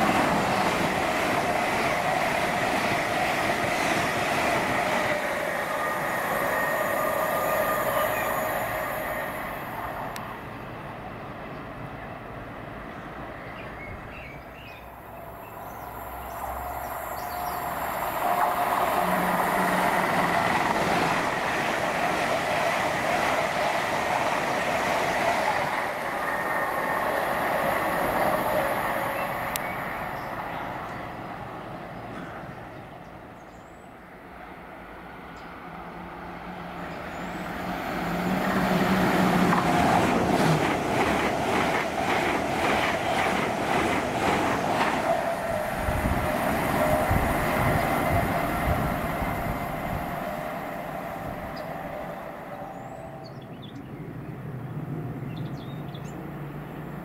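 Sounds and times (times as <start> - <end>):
train passing at speed: 0.0 - 57.0.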